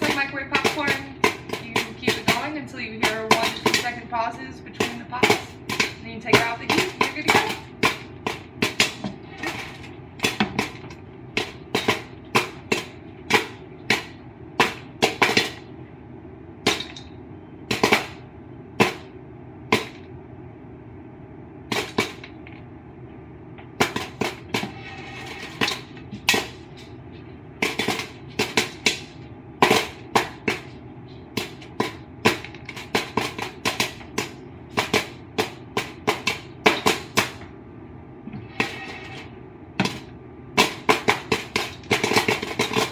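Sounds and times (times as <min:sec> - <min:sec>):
popcorn popping: 0:00.0 - 0:15.8, 0:16.6 - 0:20.1, 0:21.6 - 0:22.7, 0:23.5 - 0:37.6, 0:38.3 - 0:42.9.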